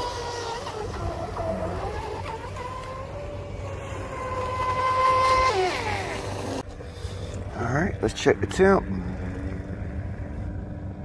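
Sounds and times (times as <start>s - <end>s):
electric motor high whine: 0.0s - 11.0s.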